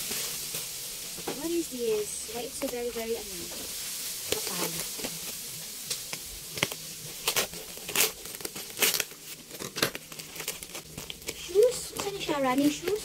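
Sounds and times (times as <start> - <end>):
steady hiss: 0.0 - 13.0
plastic mailer rustling and crinkling: 2.5 - 13.0.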